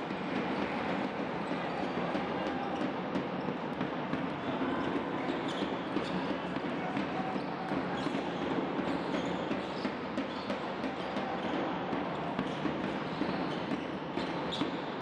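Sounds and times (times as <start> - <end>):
basketball bouncing on court: 0.0 - 15.0.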